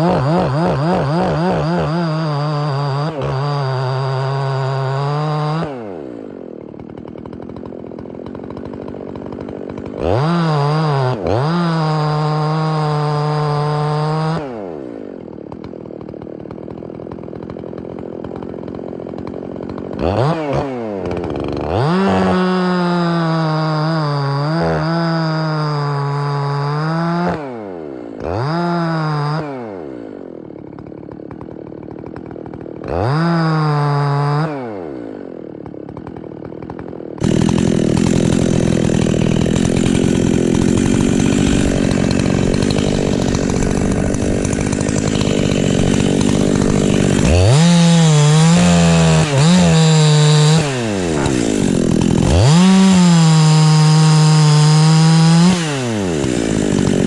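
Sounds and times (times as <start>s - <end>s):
chainsaw cutting wood: 0.0s - 57.0s
chainsaw revving: 0.0s - 57.0s.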